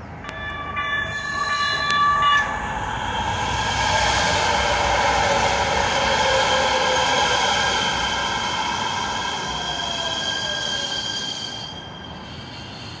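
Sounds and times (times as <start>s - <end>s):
train rolling rumble: 0.0s - 13.0s
train wheels squealing: 0.2s - 13.0s.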